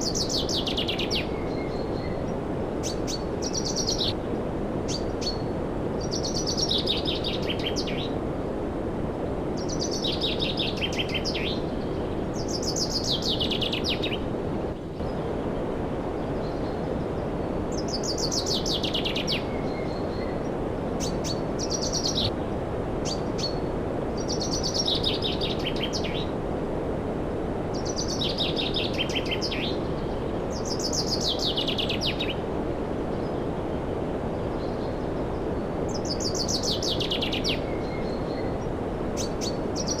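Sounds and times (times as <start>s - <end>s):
steady rushing noise: 0.0s - 40.0s.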